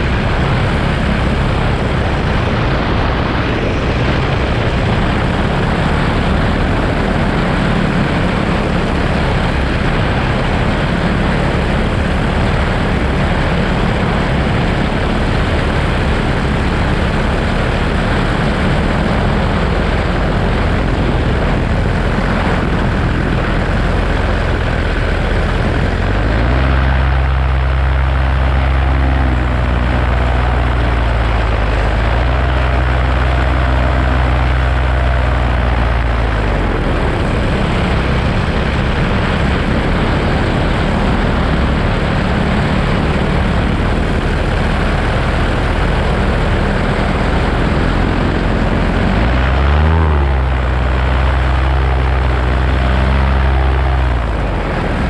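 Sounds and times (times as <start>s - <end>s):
paramotor engine and propeller: 0.0s - 55.0s
wind noise on microphone: 0.0s - 55.0s.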